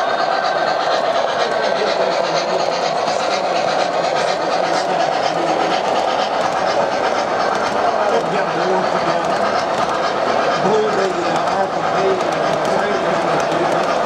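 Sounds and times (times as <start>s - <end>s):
model train wheels rattling on track: 0.3s - 14.0s.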